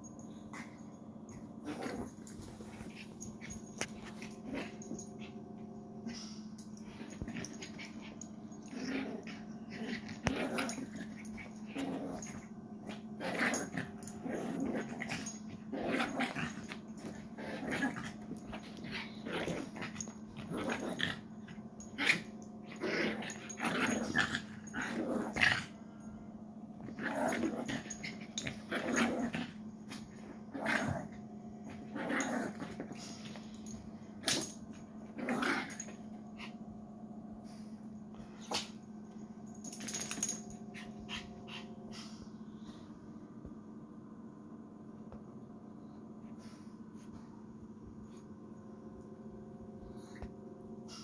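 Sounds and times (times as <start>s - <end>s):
puppy play-growling: 0.2s - 42.9s.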